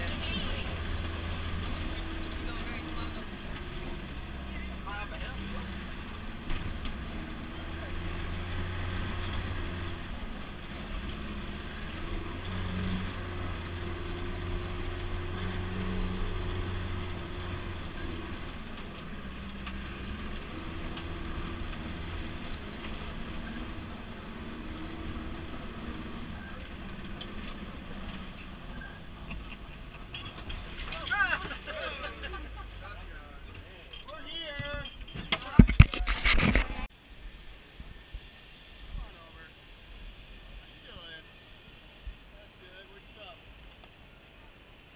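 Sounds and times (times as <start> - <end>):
truck engine droning: 0.0 - 36.9.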